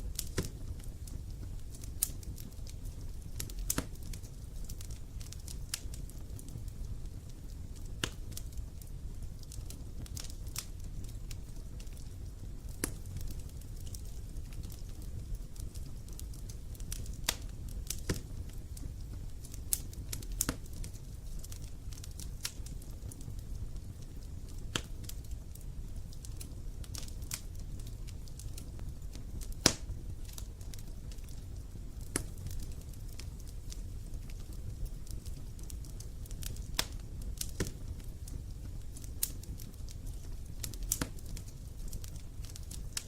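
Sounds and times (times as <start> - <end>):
fire crackling and popping: 0.0 - 43.0
wood fire rumbling: 0.0 - 43.0.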